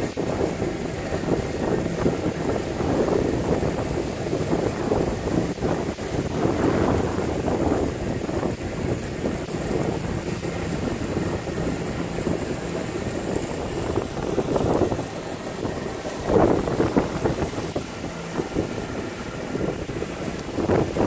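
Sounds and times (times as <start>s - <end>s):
motorboat engine: 0.0s - 21.0s
waves splashing against hull: 0.0s - 21.0s
wind: 0.0s - 21.0s.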